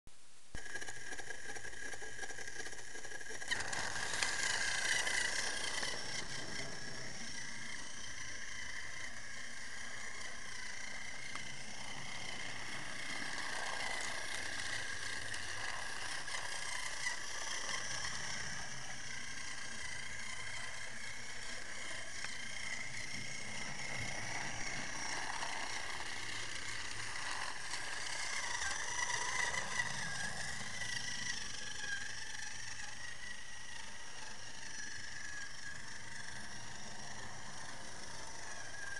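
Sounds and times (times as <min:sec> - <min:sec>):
toy train motor whirring: 0:00.6 - 0:38.9
toy train wheel rattle: 0:00.6 - 0:38.9.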